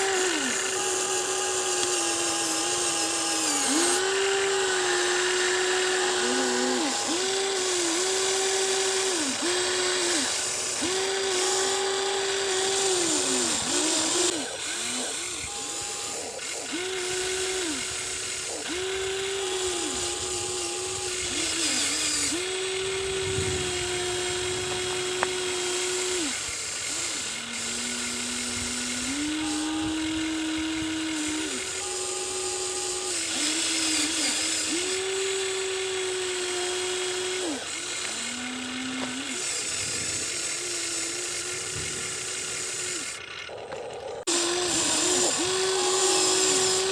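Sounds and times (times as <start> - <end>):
electric motors whining: 0.0 - 46.9.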